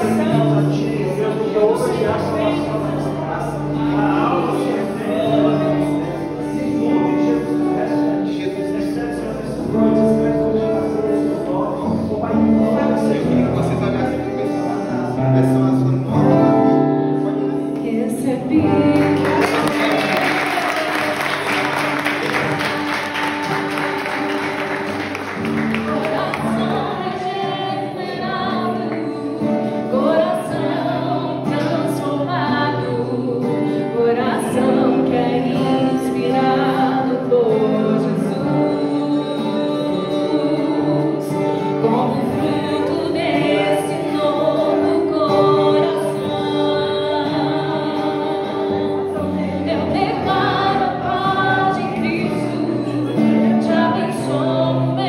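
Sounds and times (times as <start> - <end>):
voices singing worship song: 0.0 - 55.0.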